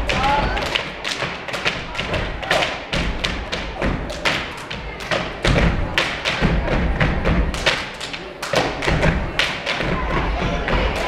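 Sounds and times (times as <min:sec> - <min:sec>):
canes striking: 0:00.0 - 0:11.0.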